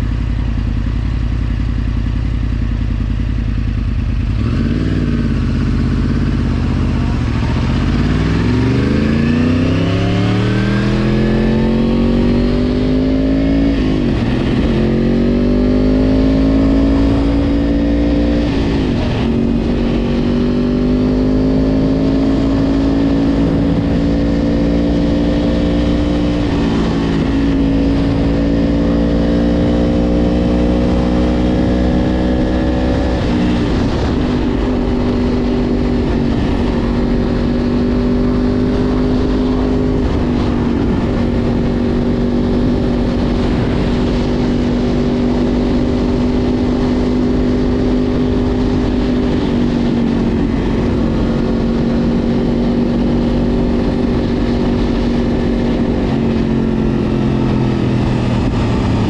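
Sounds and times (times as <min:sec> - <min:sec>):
low wind: 0:00.0 - 0:59.0
motorcycle engine with gear changes: 0:00.0 - 0:59.0
road rumble: 0:00.0 - 0:59.0.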